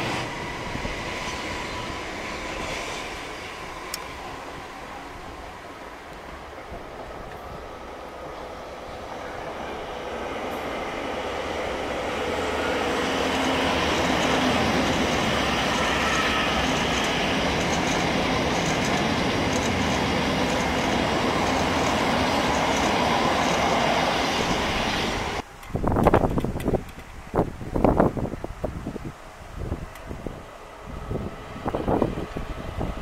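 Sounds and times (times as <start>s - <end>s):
passenger train running: 0.0s - 33.0s.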